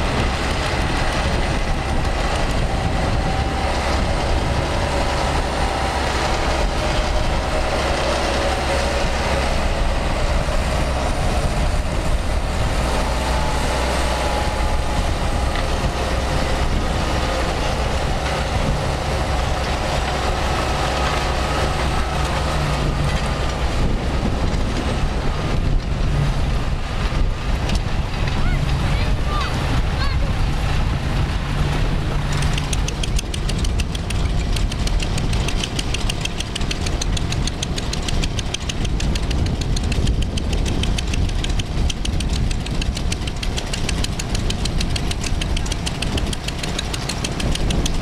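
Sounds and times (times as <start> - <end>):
engine low rumble: 0.0 - 48.0.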